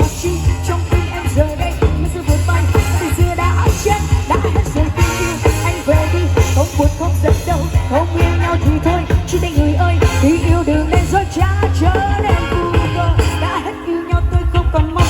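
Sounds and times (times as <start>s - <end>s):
pop song with heavy bass: 0.0s - 15.0s.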